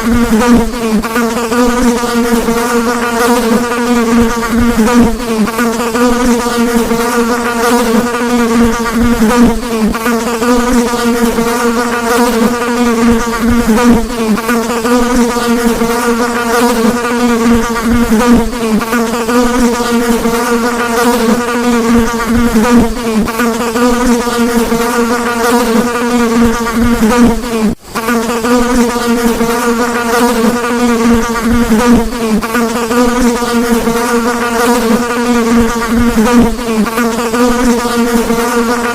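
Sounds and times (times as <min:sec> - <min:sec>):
housefly buzzing: 0:00.0 - 0:38.9.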